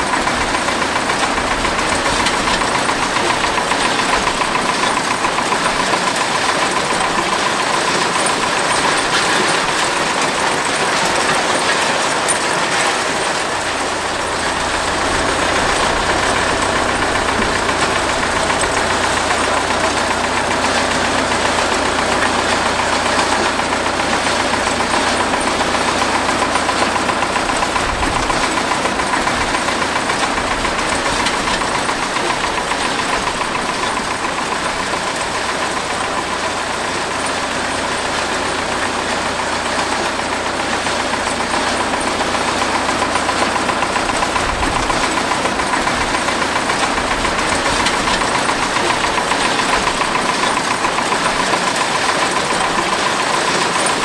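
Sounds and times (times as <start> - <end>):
motor humming steadily: 0.0 - 54.0.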